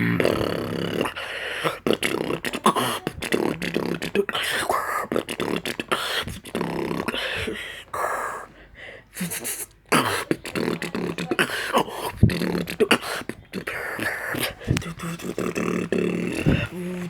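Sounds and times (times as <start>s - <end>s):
vocal beatboxing: 0.0s - 8.5s, 9.1s - 17.0s.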